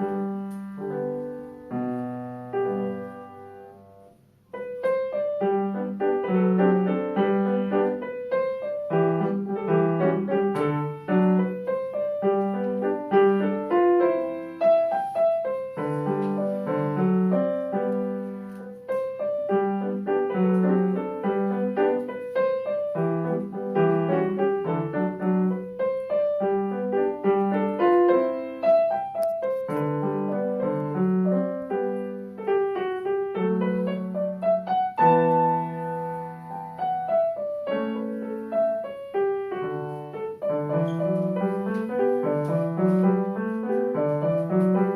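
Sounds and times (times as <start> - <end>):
solo piano classical piece: 0.0 - 44.9.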